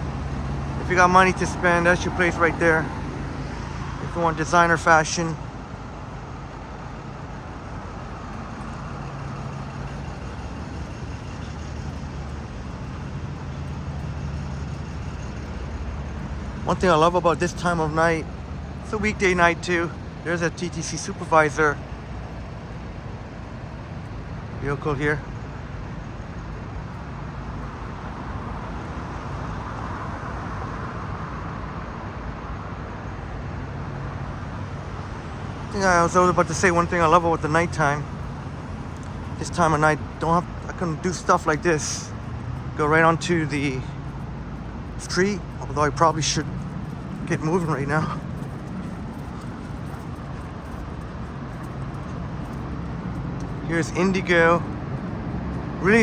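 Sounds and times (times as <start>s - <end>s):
vehicle engine running: 0.0s - 30.2s, 33.7s - 56.0s
road noise: 0.0s - 56.0s
street traffic noise: 0.0s - 56.0s.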